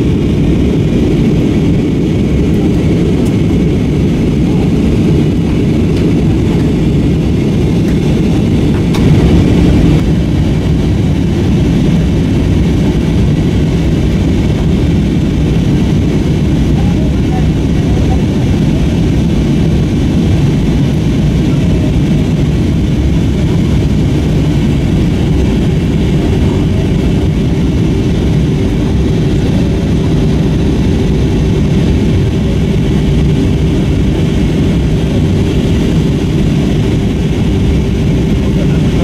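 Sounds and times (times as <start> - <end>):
airliner cabin rumble: 0.0 - 39.0
steady hum: 0.0 - 39.0.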